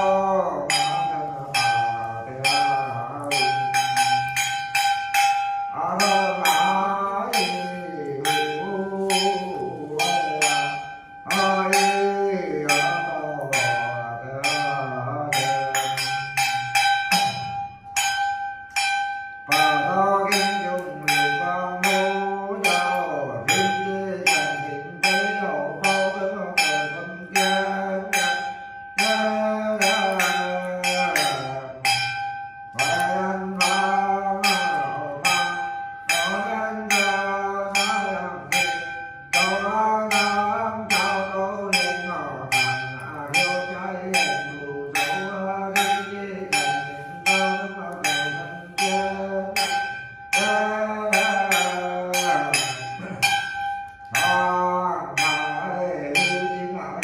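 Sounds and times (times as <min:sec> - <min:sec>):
person chanting a prayer: 0:00.0 - 0:18.1, 0:19.5 - 0:57.0
small bell struck: 0:00.7 - 0:57.0.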